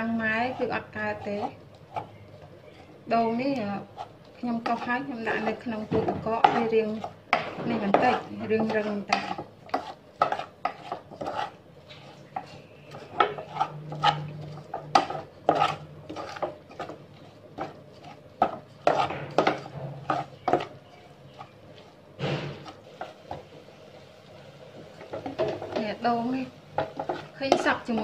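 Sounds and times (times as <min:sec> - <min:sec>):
spatula scraping saucepan: 0:00.0 - 0:23.6, 0:24.8 - 0:28.0.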